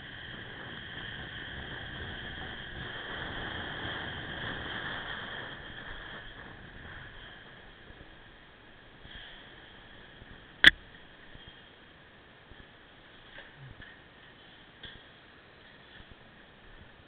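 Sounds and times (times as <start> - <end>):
motorcycle engine and road hiss: 0.0 - 17.0.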